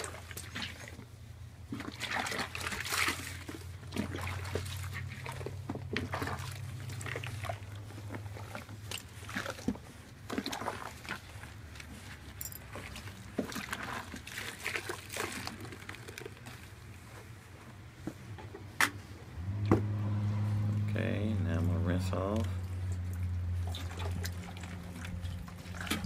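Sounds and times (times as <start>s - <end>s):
low steady hum: 0.0s - 26.0s
water sloshing in a plastic tub: 0.0s - 26.0s.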